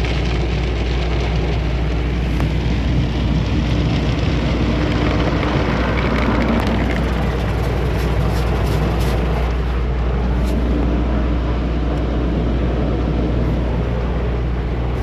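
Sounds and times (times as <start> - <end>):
car wash machinery roaring: 0.0 - 15.0.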